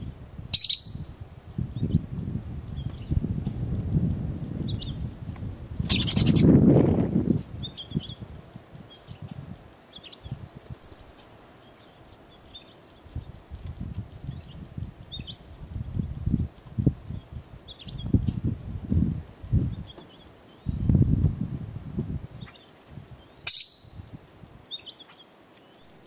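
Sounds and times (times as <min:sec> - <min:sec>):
squirrel chattering call: 0:00.4 - 0:25.1.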